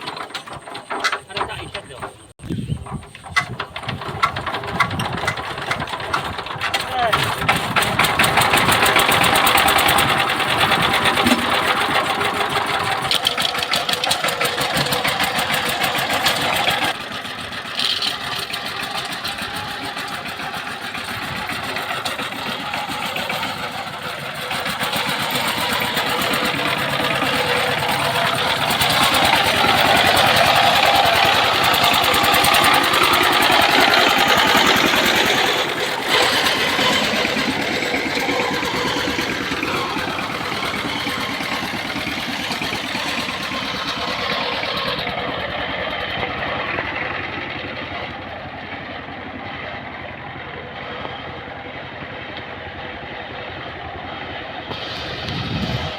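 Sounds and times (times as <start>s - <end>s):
diesel engine chattering: 0.0s - 55.9s.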